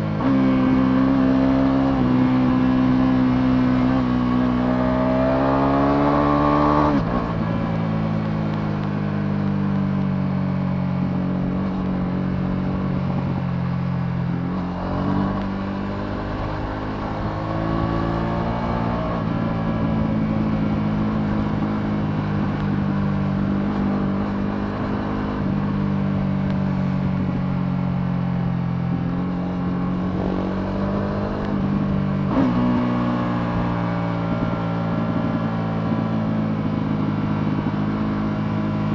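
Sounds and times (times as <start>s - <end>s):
motorcycle engine revving: 0.0s - 9.4s, 10.9s - 38.9s.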